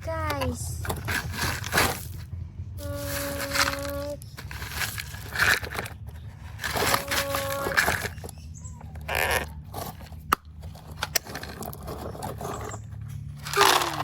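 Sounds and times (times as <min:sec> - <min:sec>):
small stones scraping and rattling: 0:00.4 - 0:14.0.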